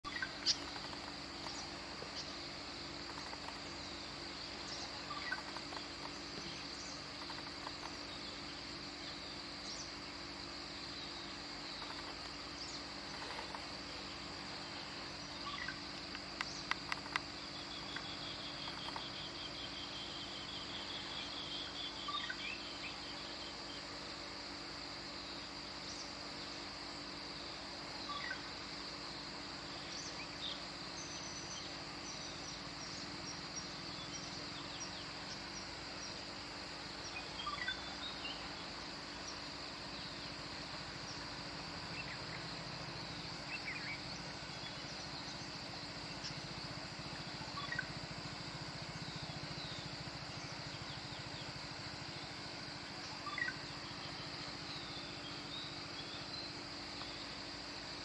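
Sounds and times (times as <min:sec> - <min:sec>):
birds chirping: 0:00.0 - 0:23.8, 0:29.8 - 0:57.4
steady high-pitched hiss: 0:00.0 - 0:58.0.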